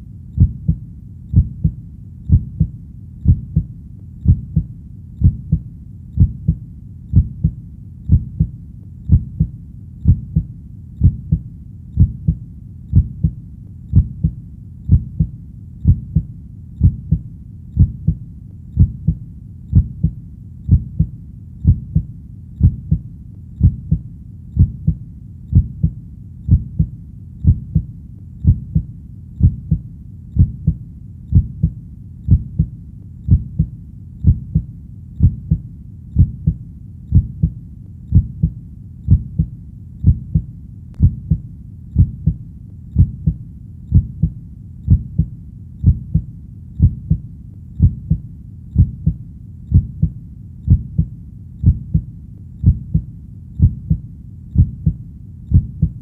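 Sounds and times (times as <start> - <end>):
heartbeat thumps: 0.4 - 56.0.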